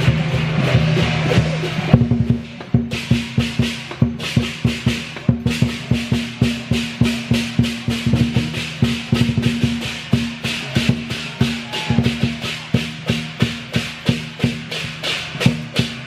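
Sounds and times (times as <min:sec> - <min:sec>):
cymbals clashing: 0:00.0 - 0:16.0
drums beaten fast: 0:00.0 - 0:16.0.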